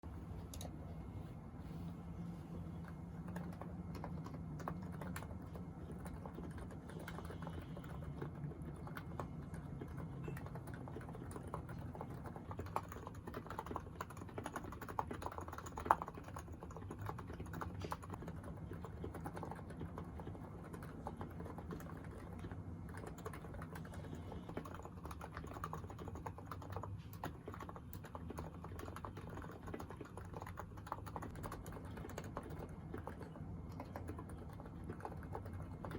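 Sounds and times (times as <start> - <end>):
keyboard typing: 2.9 - 35.9.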